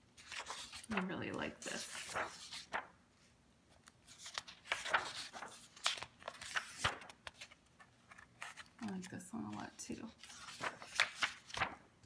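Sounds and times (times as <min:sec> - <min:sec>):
paper pages rustling: 0:00.1 - 0:12.0.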